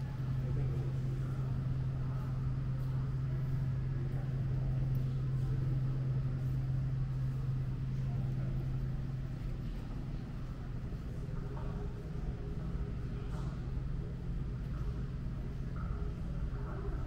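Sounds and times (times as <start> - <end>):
faint background voices: 0.0 - 17.0
steady low hum: 0.0 - 17.0.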